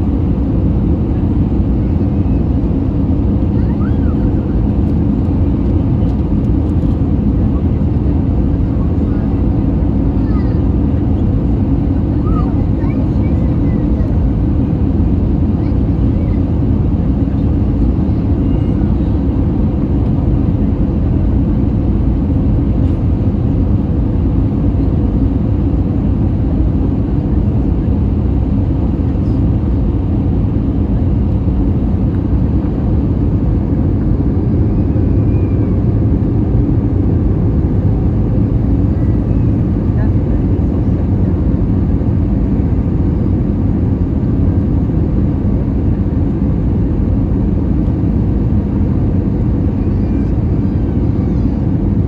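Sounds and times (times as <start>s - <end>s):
airplane engines rumbling: 0.0s - 52.0s
faint hum: 0.0s - 52.0s.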